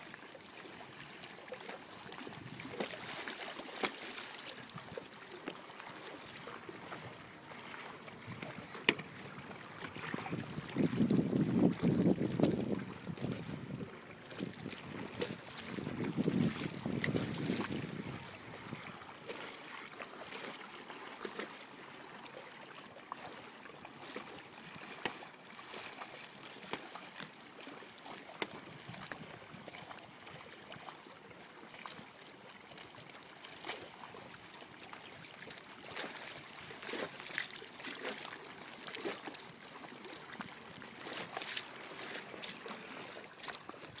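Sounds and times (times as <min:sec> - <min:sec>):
small waves lapping and splashing: 0:00.0 - 0:44.0.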